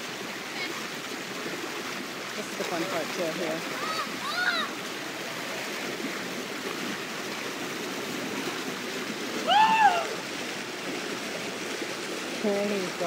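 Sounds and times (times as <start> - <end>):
stream water rushing over rock: 0.0 - 13.0.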